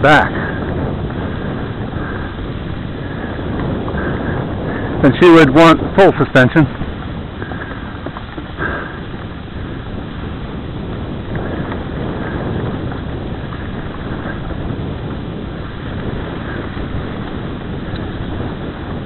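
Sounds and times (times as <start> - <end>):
bike riding rumble on dirt: 0.0 - 19.0
wind buffeting microphone: 0.0 - 19.0.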